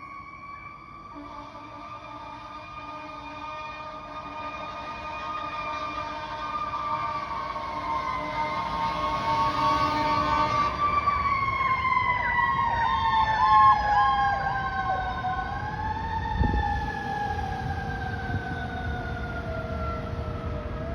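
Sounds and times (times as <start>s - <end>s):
fire truck siren wailing: 0.0s - 20.9s.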